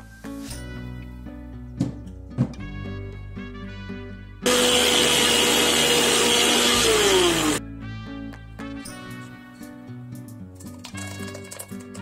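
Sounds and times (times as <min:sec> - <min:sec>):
melodic background music: 0:00.0 - 0:12.0.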